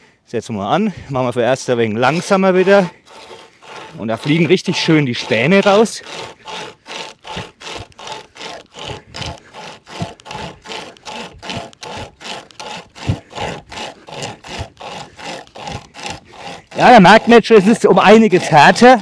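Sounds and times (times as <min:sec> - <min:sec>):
pocket chainsaw rasping through wood: 0:00.7 - 0:19.0.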